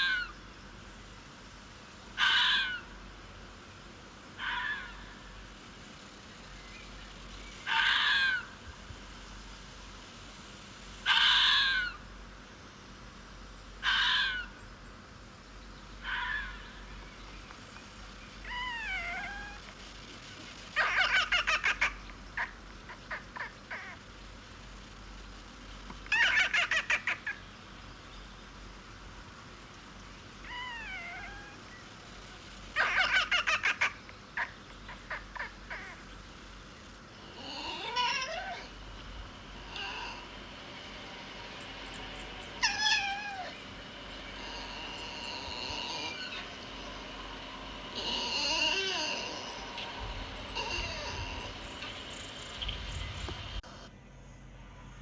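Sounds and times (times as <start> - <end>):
animal calls and cries: 0.0 - 0.8, 2.1 - 3.5, 4.2 - 8.6, 11.0 - 12.3, 13.6 - 14.7, 15.8 - 24.4, 25.5 - 27.8, 29.5 - 53.6.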